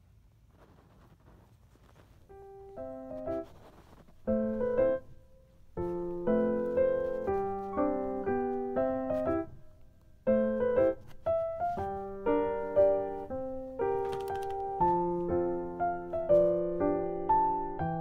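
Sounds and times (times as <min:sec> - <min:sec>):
piano music: 0:02.2 - 0:18.0.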